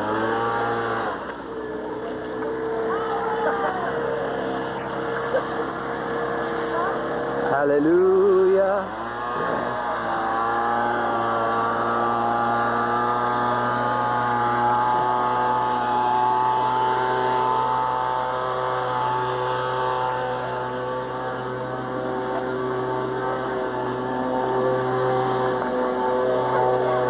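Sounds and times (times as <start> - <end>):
motor humming steadily: 0.0 - 27.0.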